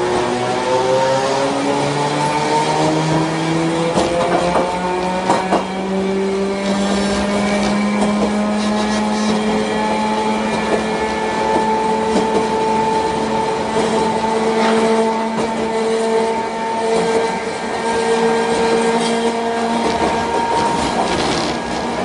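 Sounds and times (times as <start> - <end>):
tram motors whining: 0.0 - 22.0
tram running noise: 0.0 - 22.0.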